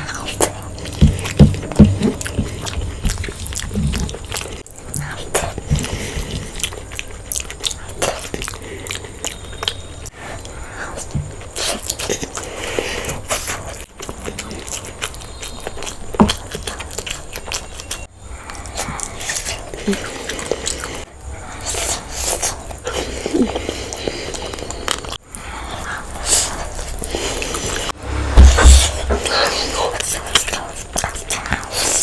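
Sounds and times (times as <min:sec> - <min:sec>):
wet chewing and smacking: 0:00.0 - 0:28.0, 0:29.8 - 0:32.0.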